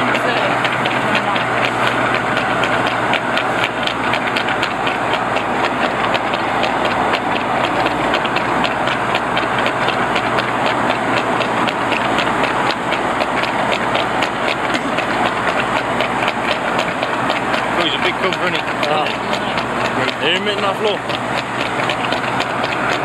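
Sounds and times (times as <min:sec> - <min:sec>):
horse hooves trotting on tarmac: 0:00.0 - 0:23.0
vehicle engines and tyre noise: 0:00.0 - 0:23.0.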